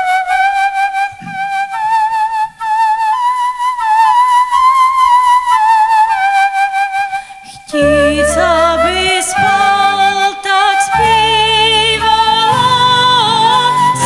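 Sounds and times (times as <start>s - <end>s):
flute-like solo melody: 0.0s - 14.0s.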